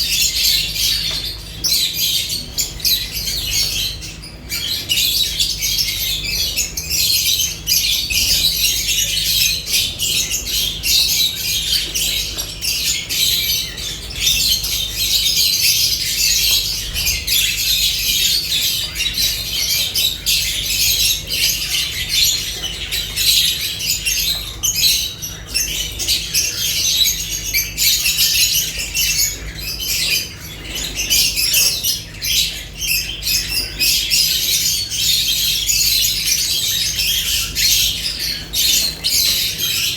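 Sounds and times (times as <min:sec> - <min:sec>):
lovebirds squawking and chattering: 0:00.0 - 0:39.9.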